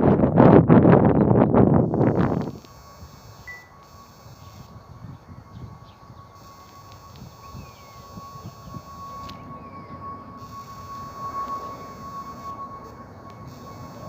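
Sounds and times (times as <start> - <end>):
wind on microphone: 0.0 - 14.0
jet engines whining: 1.5 - 14.0.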